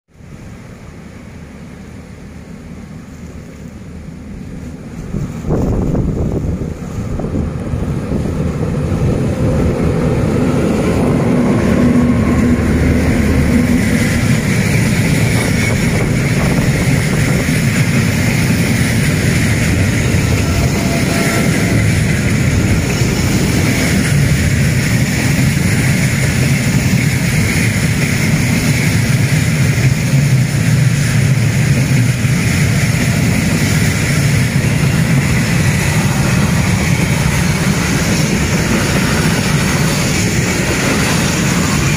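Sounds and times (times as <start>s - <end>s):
diesel locomotives rumbling: 0.1s - 41.9s.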